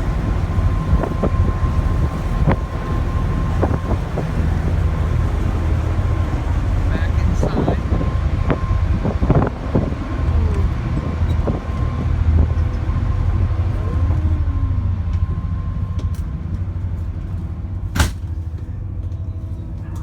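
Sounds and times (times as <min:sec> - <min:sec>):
faint steady whine: 0:00.0 - 0:20.0
ferry engine rumble: 0:00.0 - 0:20.0.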